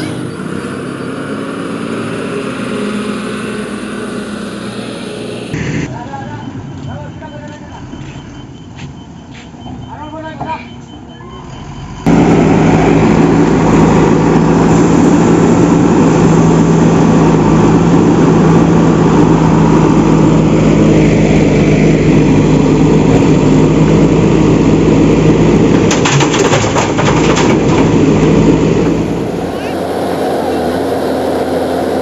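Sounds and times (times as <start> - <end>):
engine running steadily: 0.0 - 9.5, 11.4 - 32.0.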